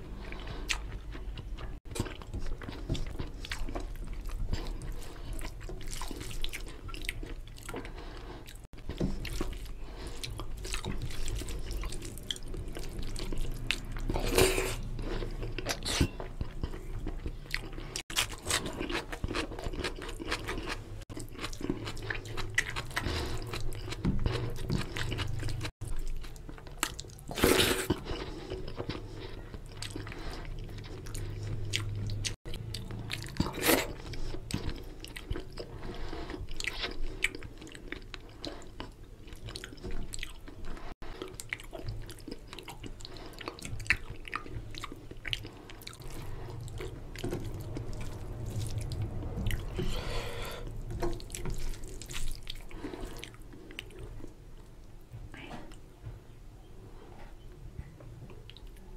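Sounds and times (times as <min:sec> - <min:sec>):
chewing and mouth smacks: 0:00.1 - 0:49.9, 0:50.6 - 0:54.8.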